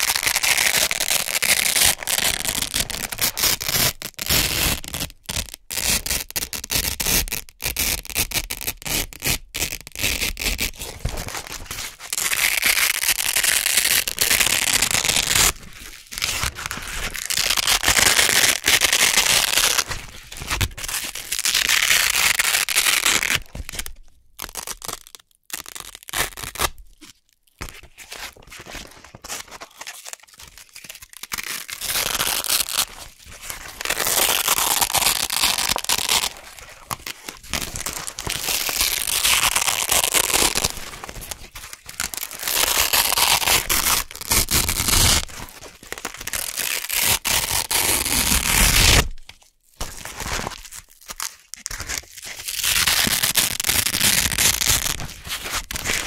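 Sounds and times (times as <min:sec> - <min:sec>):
velcro straps ripping apart: 0:00.0 - 0:15.6, 0:16.2 - 0:27.1, 0:29.6 - 0:33.0, 0:33.6 - 0:41.2, 0:41.9 - 0:49.2, 0:50.1 - 0:56.0.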